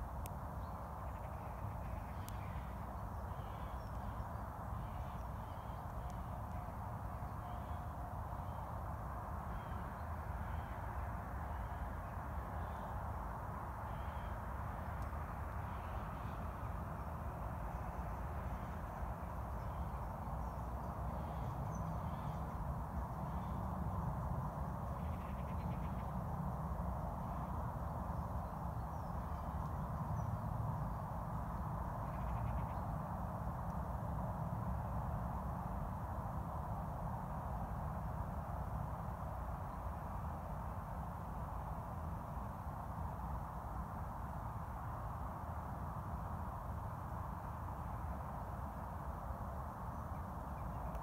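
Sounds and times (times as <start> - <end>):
countryside rumble and hiss: 0.0 - 51.0.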